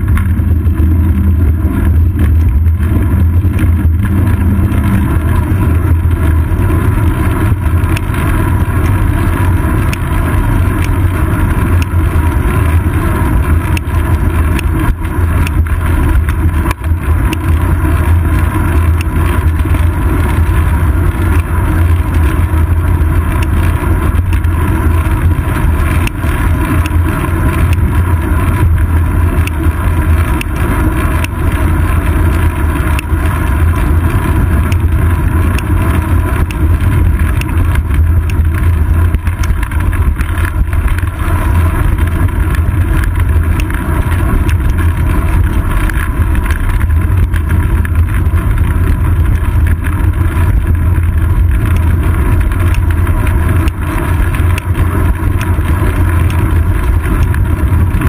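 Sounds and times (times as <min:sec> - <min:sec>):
tyre and road noise: 0:00.0 - 0:58.0
wind rumble while cycling: 0:00.0 - 0:58.0.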